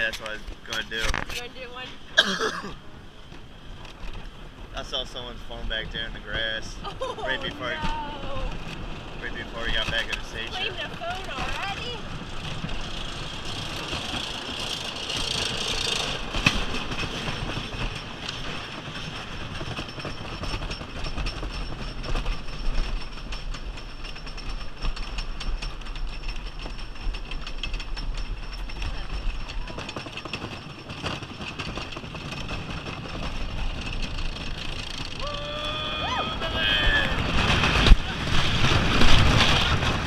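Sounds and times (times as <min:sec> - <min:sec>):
roller coaster rumbling and clattering: 0:00.0 - 0:40.0.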